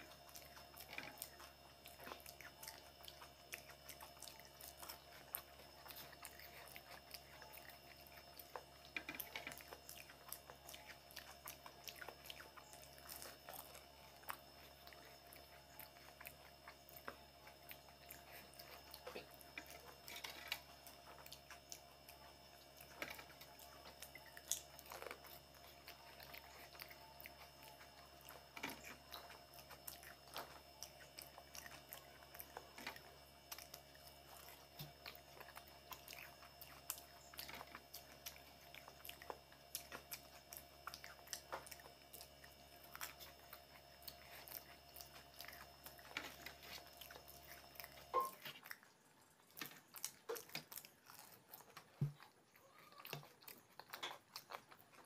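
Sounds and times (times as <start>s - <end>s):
crunching and wet chewing: 0.0s - 55.0s
faint steady hum: 0.0s - 55.0s.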